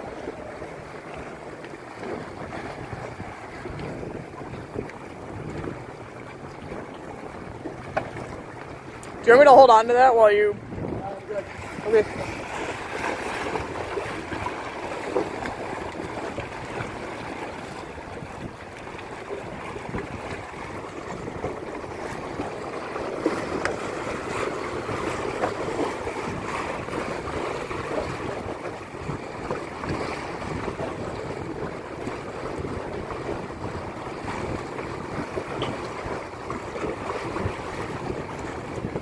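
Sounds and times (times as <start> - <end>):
waves splashing against rocks: 0.0 - 39.0
wind on microphone: 0.0 - 39.0.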